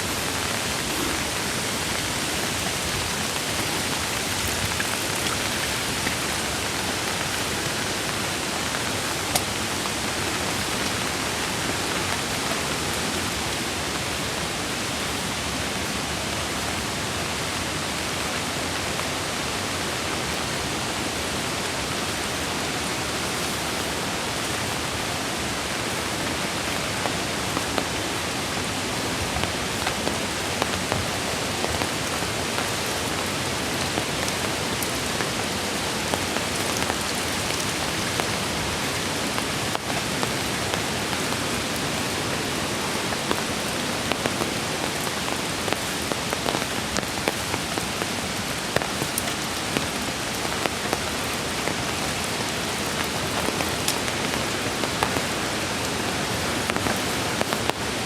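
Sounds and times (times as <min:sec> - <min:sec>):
creek rushing: 0:00.0 - 0:58.0
falling rain: 0:00.0 - 0:58.0.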